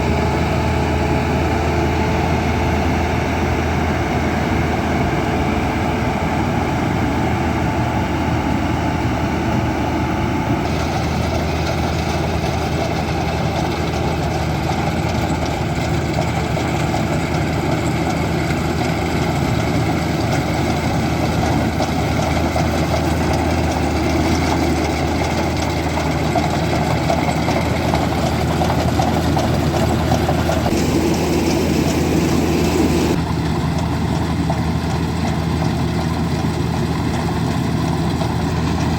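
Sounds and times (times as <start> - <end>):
diesel farm machinery engine: 0.0 - 38.9.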